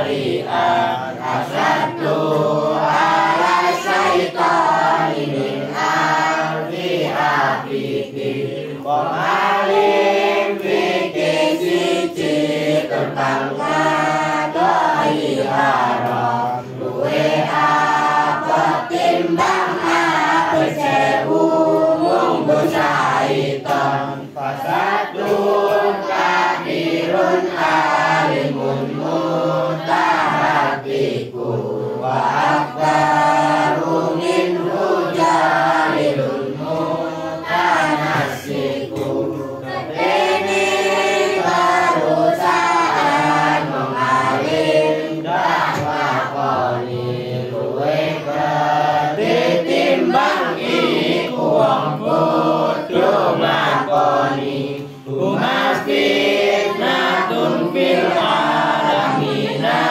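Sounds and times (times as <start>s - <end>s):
girls chanting in unison: 0.0s - 59.9s.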